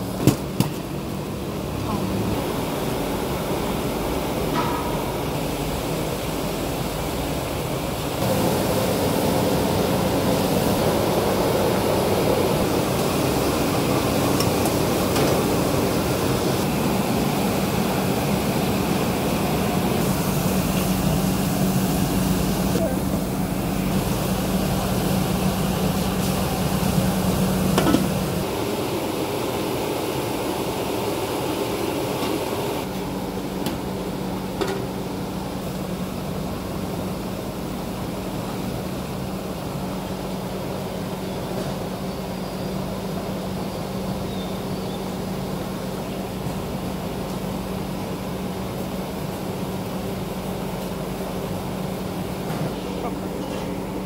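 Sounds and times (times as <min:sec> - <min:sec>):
kitchen stove and ventilation noise: 0:00.0 - 0:54.0.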